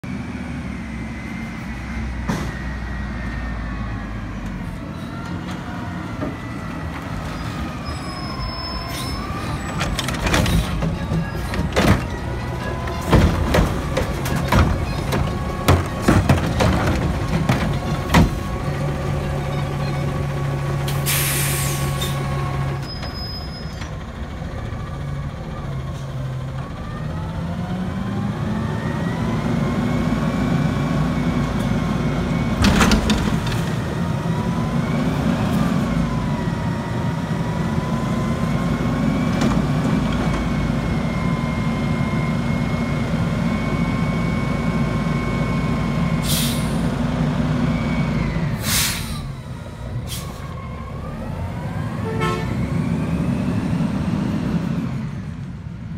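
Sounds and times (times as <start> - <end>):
garbage truck engine running: 5.3 - 55.9.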